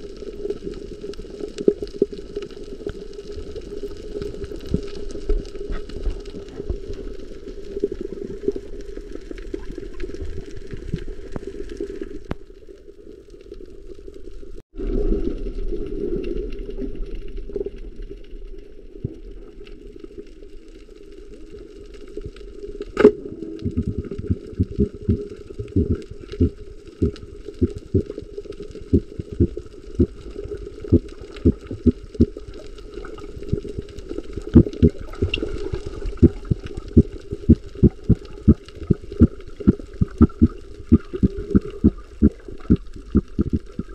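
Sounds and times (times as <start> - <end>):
underwater rush of water: 0.0 - 43.9.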